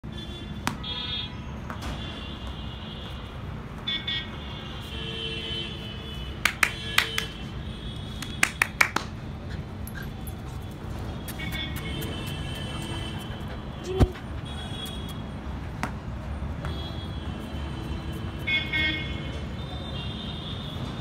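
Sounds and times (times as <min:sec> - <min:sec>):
distant traffic: 0:00.0 - 0:21.0.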